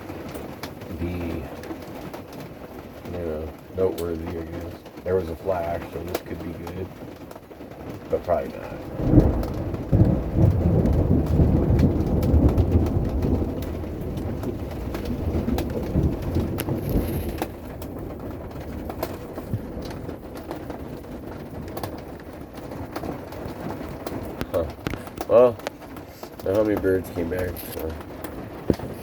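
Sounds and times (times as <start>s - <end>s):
rain: 0.0s - 29.0s
thunder rumbling: 0.0s - 29.0s.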